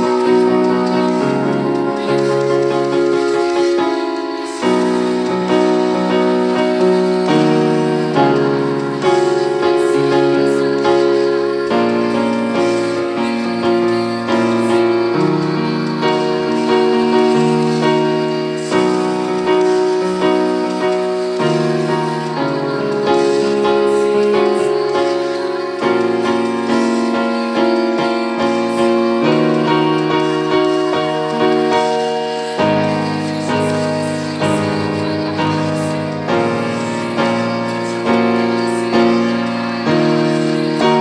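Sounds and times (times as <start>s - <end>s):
keyboard playing slow piano chords: 0.0s - 41.0s.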